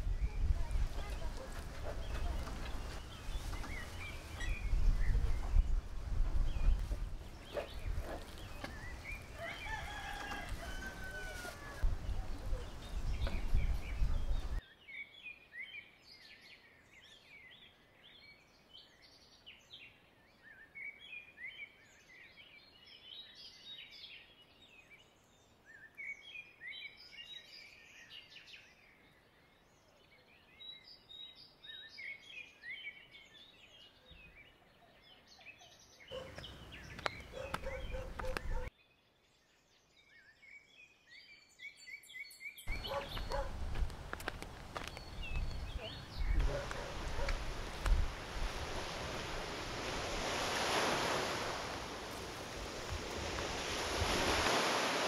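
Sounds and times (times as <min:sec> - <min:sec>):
small birds chirping: 0:00.0 - 0:54.8.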